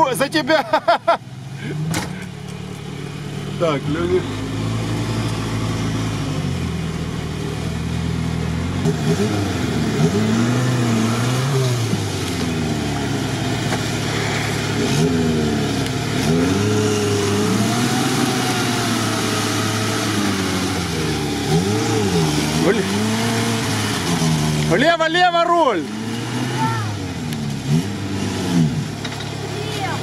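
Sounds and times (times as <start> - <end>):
off-road engine revving: 0.0 - 30.0.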